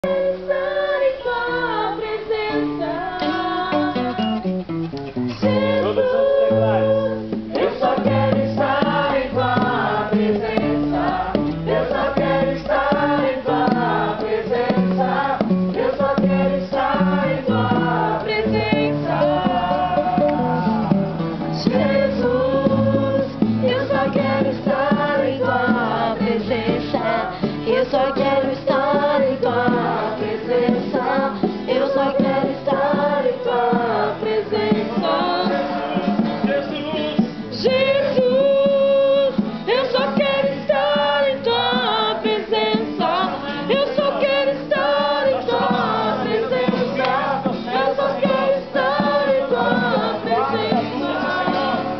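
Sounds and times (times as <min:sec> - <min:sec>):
group singing worship song: 0:00.0 - 0:04.5, 0:05.3 - 0:51.9
strummed acoustic guitar: 0:00.0 - 0:51.9.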